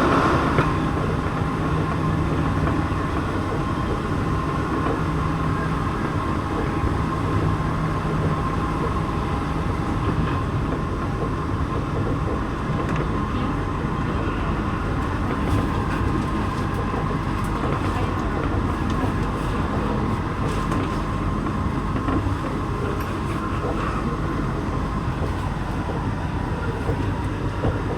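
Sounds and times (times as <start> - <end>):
train rumbling inside car: 0.0 - 27.9.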